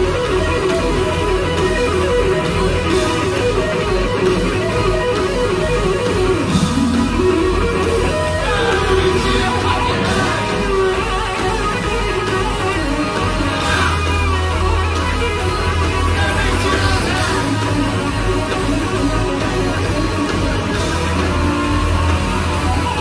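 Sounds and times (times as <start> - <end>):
electric guitar solo: 0.0 - 23.0.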